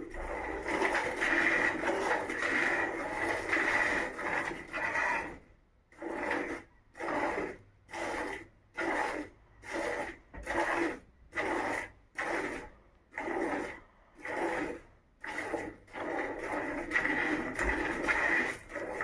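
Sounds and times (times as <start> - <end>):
milk squirting into a bucket: 0.0 - 19.0.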